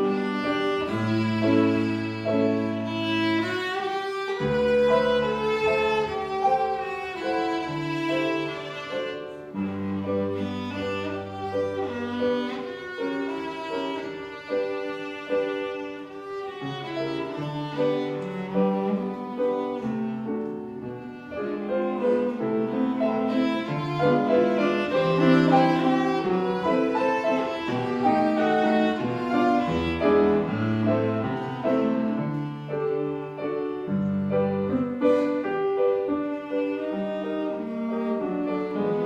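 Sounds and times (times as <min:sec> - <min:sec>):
cello melody: 0:00.0 - 0:39.0
piano accompaniment: 0:00.0 - 0:39.0.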